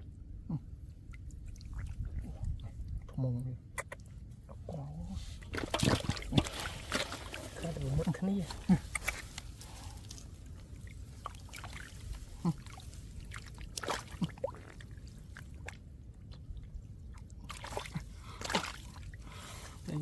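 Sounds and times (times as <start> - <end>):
shallow water sloshing: 0.0 - 20.0
mud squelching: 0.2 - 20.0.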